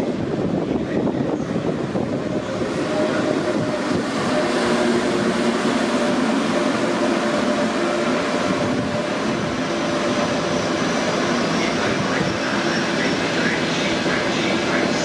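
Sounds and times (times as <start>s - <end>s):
train rolling noise: 0.0s - 15.0s.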